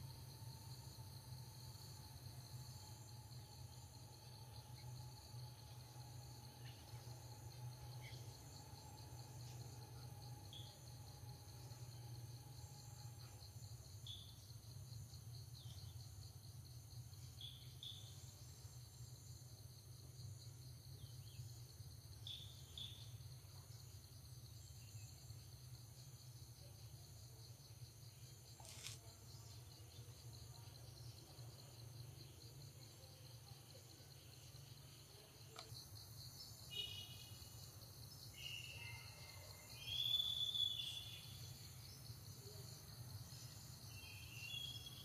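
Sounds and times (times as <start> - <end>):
pulsing insect trill: 0.0 - 45.0.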